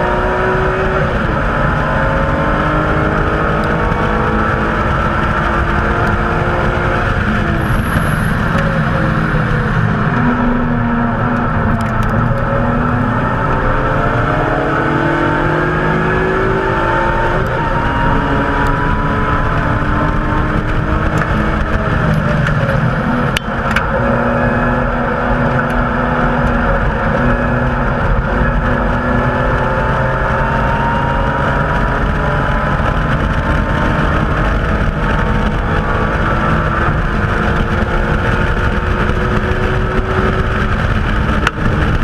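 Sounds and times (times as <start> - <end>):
car engine under load: 0.0 - 42.0
road and wind noise: 0.0 - 42.0.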